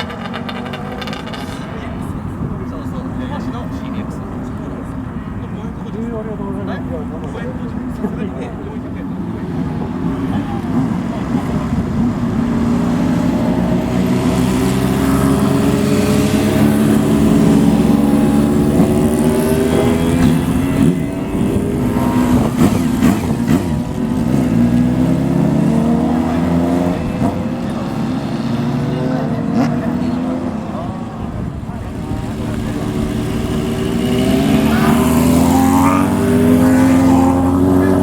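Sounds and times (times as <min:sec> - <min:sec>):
motorcycles revving past: 0:00.0 - 0:03.9, 0:09.1 - 0:38.0.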